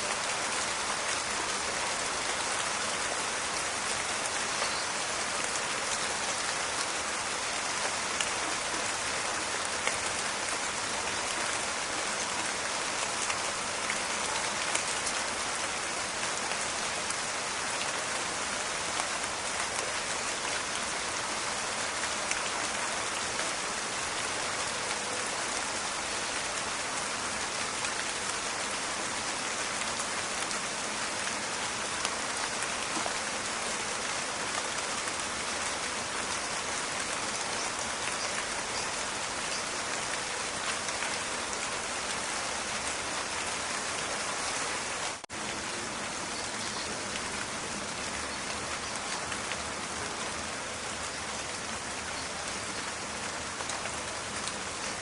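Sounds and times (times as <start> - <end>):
rain falling in forest: 0.0 - 55.0.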